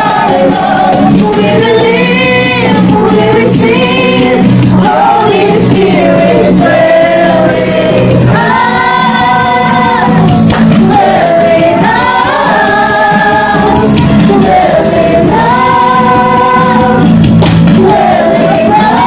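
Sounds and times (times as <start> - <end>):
group singing worship song: 0.0 - 19.0.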